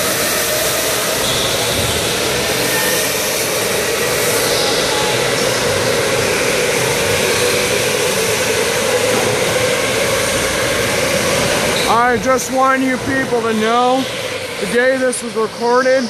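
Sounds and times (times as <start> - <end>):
electric go-karts whirring: 0.0 - 16.0.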